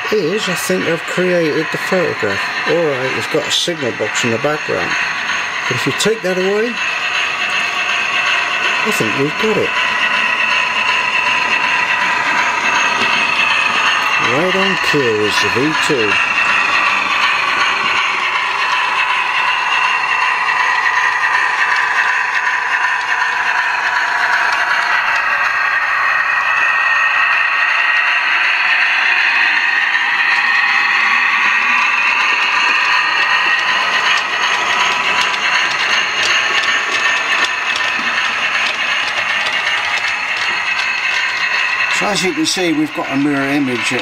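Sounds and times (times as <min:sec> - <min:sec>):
model locomotive motor whirring: 0:00.0 - 0:44.0.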